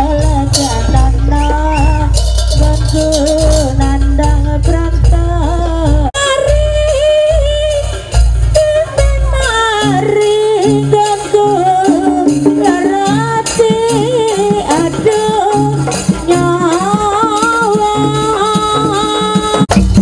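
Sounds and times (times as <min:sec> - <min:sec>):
ornamented melody line: 0:00.0 - 0:20.0
rattling percussion: 0:00.0 - 0:20.0.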